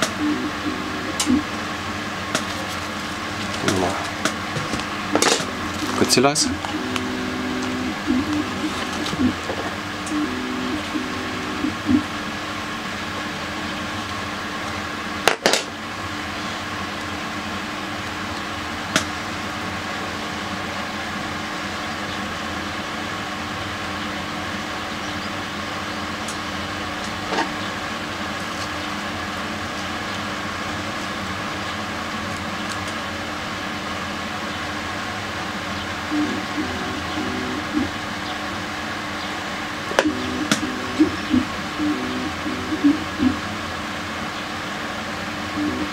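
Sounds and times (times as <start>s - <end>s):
steady mechanical hum: 0.0s - 45.9s.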